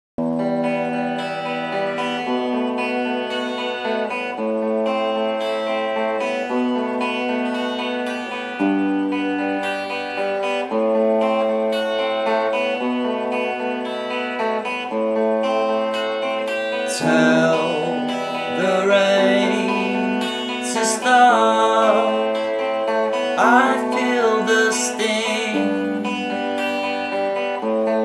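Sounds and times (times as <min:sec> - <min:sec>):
acoustic guitar chords: 0:00.2 - 0:28.0.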